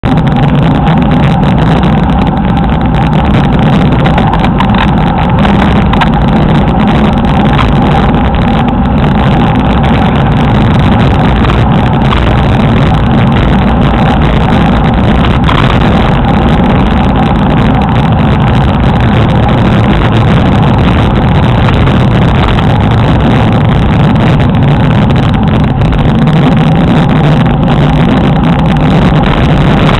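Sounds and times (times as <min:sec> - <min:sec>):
wind rushing over microphone: 0:00.0 - 0:29.9.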